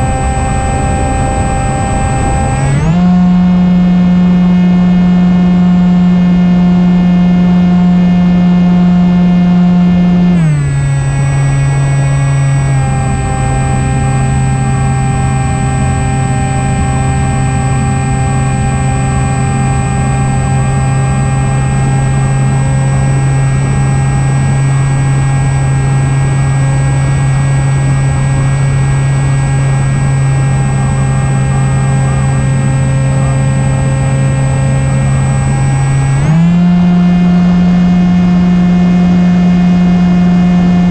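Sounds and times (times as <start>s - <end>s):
electric motor and propeller drone: 0.0s - 40.9s.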